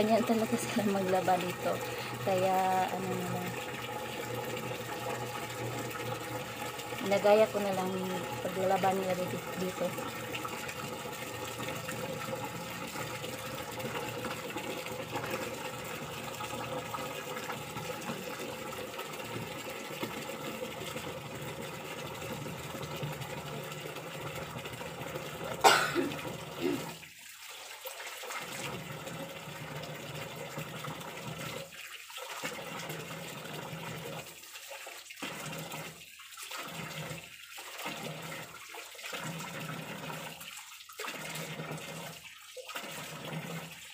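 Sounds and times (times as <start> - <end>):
water pouring into plastic drum: 0.0 - 43.9.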